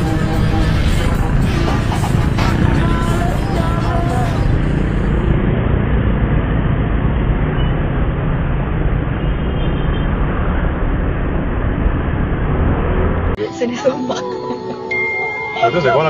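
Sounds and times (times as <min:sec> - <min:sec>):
road and engine rumble in car: 0:00.0 - 0:13.7.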